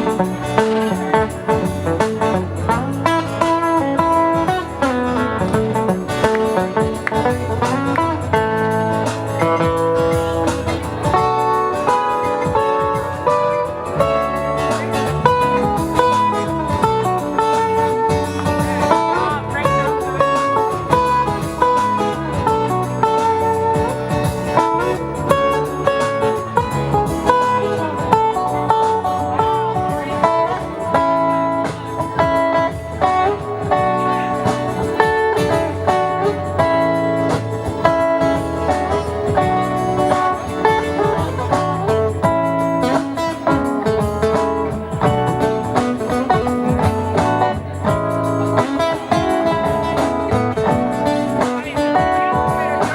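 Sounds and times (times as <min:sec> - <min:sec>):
plucked guitar melody: 0:00.0 - 0:52.9.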